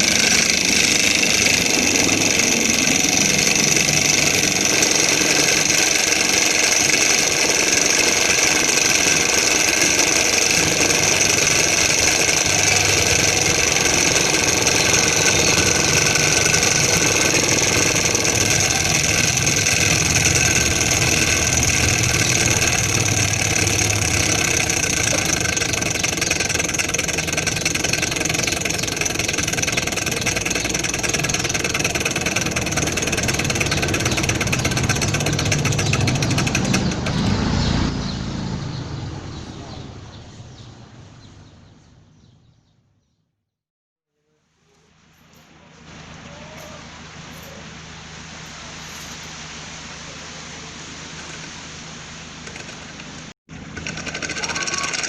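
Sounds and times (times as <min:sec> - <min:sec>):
small stirling engine running: 0:00.0 - 0:40.6, 0:44.7 - 0:55.0.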